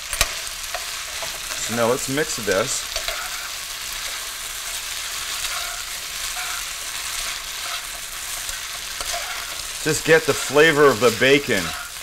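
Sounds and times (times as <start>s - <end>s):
food sizzling in a pan: 0.0s - 12.0s
utensil stirring in a pan: 0.0s - 12.0s.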